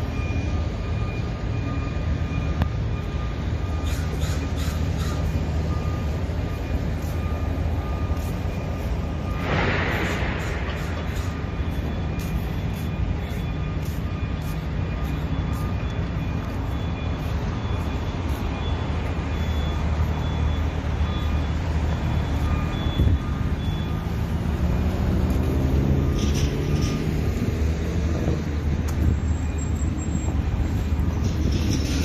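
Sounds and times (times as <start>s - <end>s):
rumble of passing cars: 0.0s - 32.0s.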